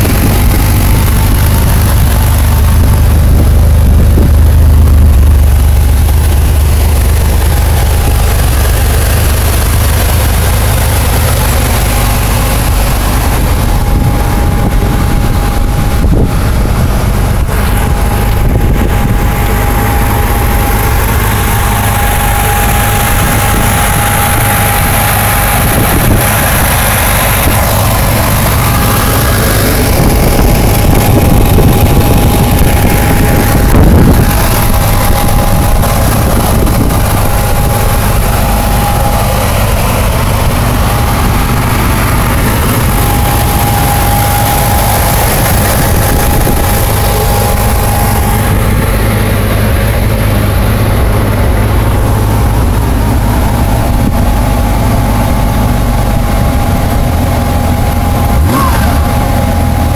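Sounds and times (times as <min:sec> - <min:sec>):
high whine: 0:00.0 - 0:59.9
motorcycle engine idling: 0:00.0 - 0:59.9.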